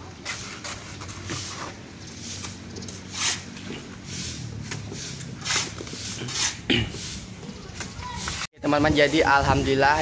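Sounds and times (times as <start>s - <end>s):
trowel scraping mortar: 0.1s - 9.3s.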